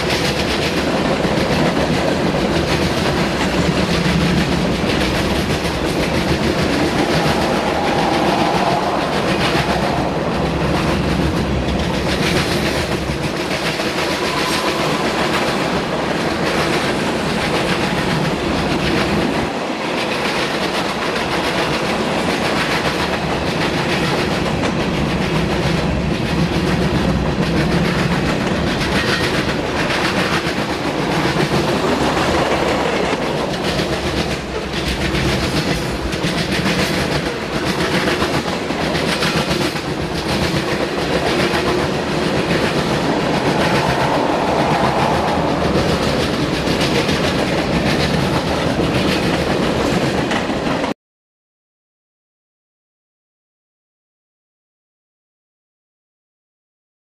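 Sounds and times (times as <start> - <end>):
freight train wheels clattering: 0.0 - 50.9.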